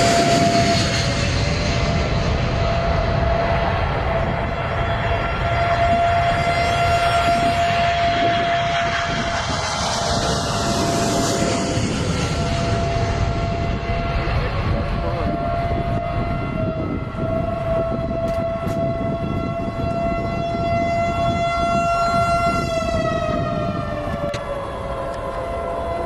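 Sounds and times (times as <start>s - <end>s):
jet engines roaring with whine: 0.0s - 26.0s.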